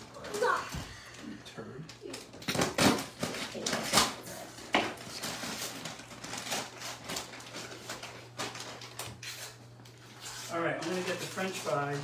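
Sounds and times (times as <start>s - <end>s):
plastic bag crinkling: 2.1s - 12.0s.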